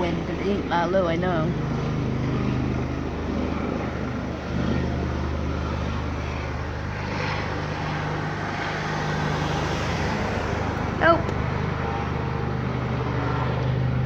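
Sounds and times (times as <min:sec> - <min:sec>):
helicopter rotor and engine drone: 0:00.0 - 0:14.0.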